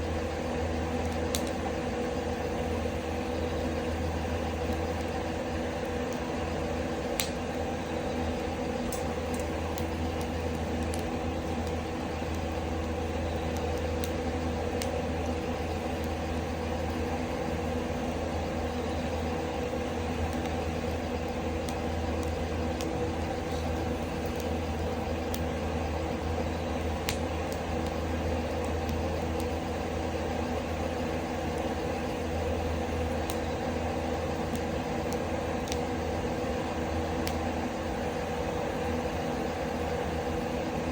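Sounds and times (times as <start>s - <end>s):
exhaust fan humming: 0.0s - 40.9s
firewood crackling: 0.8s - 1.8s, 2.5s - 40.8s.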